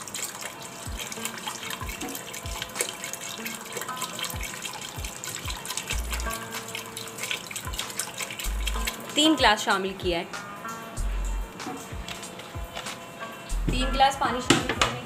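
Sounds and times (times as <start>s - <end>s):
water pouring into a pot: 0.0s - 10.0s, 10.9s - 13.6s.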